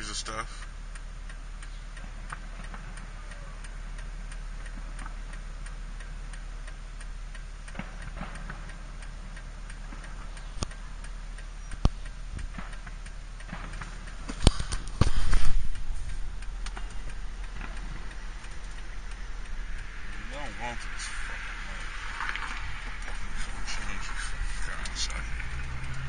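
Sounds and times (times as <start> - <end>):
idling car hum: 0.0 - 26.0
turn signal ticking: 0.0 - 26.0
sharp pops: 1.6 - 26.0.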